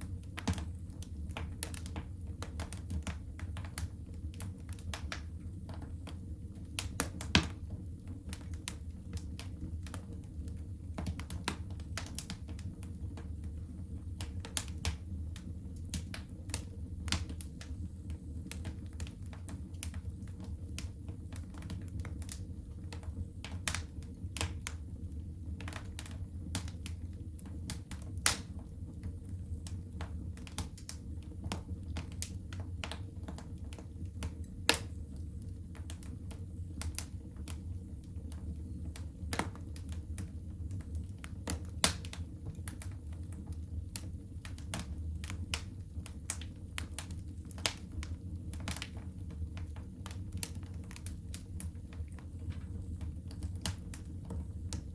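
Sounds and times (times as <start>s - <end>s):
low fire rumble: 0.0s - 54.9s
wood fire crackling: 0.0s - 54.9s.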